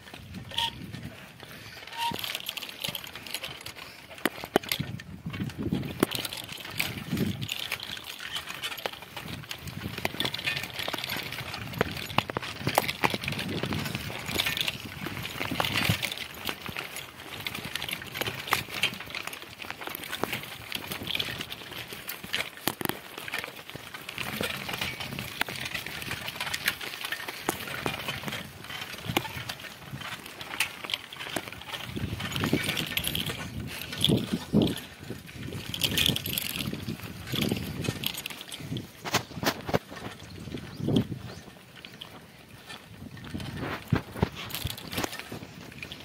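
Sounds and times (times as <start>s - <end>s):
bicycle rattling and clicking: 0.0s - 46.0s
tyres crunching on gravel: 0.0s - 46.0s.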